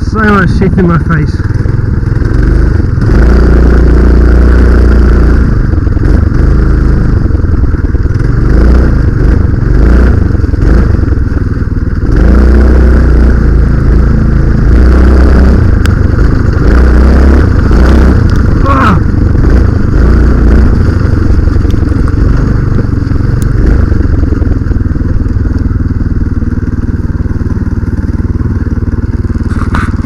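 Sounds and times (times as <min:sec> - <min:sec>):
minibike engine running under load: 0:00.0 - 0:30.0.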